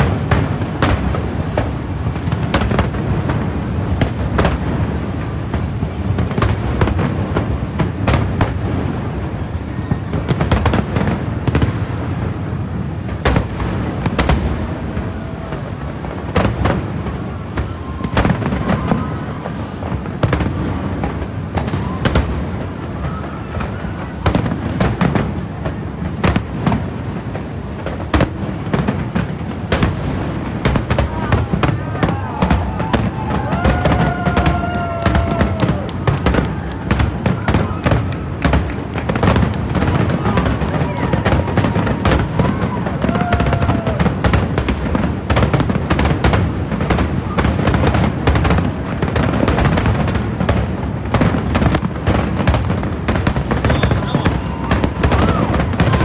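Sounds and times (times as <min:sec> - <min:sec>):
fireworks cracking and banging: 0:00.0 - 0:56.0.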